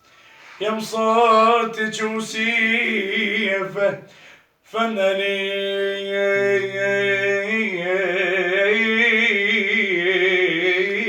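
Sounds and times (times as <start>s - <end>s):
man chanting: 0.6s - 4.1s, 4.7s - 11.0s.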